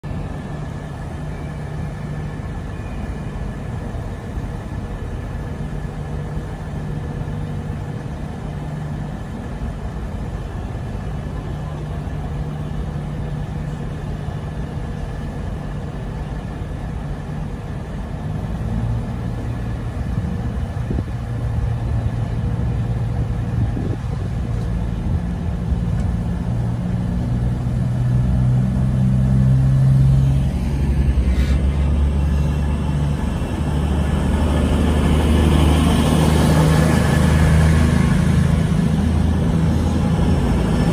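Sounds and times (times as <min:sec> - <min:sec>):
train diesel engines: 0:00.0 - 0:40.9.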